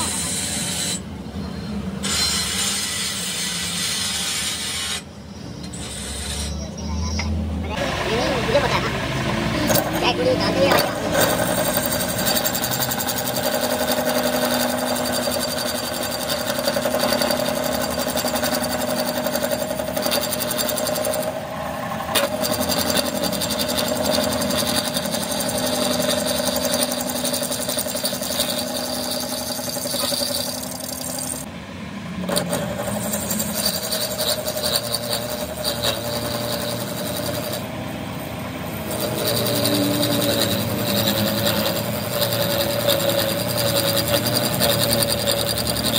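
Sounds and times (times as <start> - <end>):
metal lathe running: 0.0 - 1.2, 2.0 - 5.1, 7.7 - 45.9.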